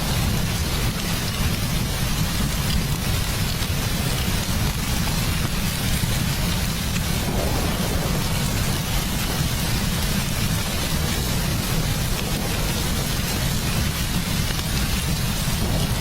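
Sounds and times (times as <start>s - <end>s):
deep rumble: 0.0s - 16.0s
heavy rain falling: 0.0s - 16.0s.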